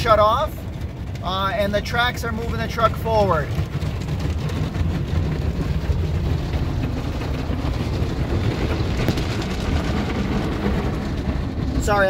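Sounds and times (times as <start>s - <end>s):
car wash brushes and water spray: 0.0s - 12.0s
steady low rumble: 0.0s - 12.0s.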